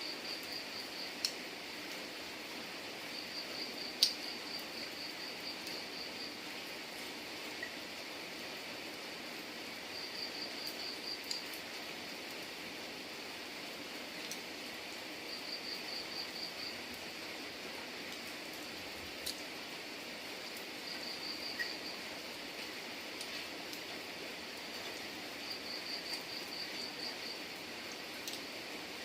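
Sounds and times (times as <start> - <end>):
rain hiss: 0.0 - 29.0.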